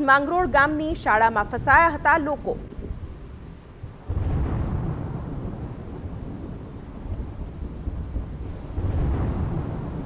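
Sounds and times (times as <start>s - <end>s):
steady rain: 0.0s - 10.0s
thunder rumbling: 0.3s - 10.0s.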